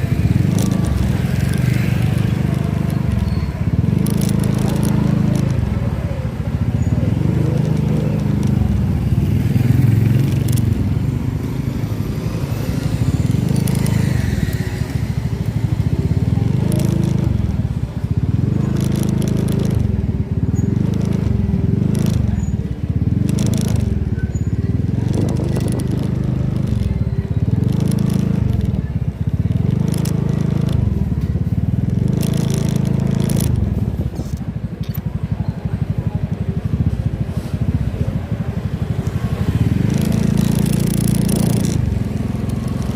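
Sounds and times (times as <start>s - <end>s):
vehicle engine running: 0.0s - 42.9s
wind and road noise: 0.0s - 42.9s.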